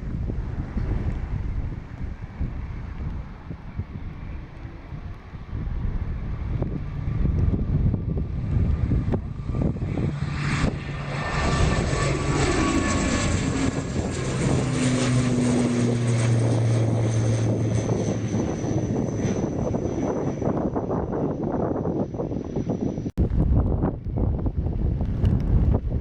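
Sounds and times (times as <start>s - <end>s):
propeller aircraft engines: 0.0s - 26.0s
wind buffeting microphone: 0.0s - 26.0s.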